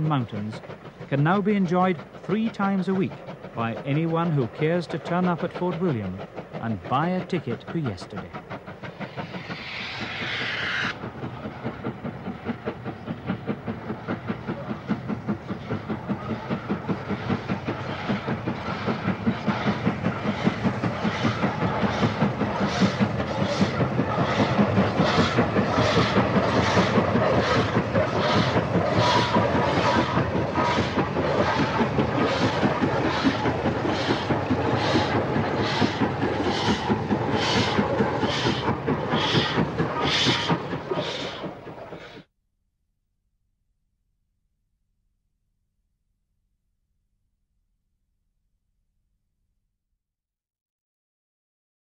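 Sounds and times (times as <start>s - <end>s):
steam locomotive exhaust beating: 0.0s - 42.3s.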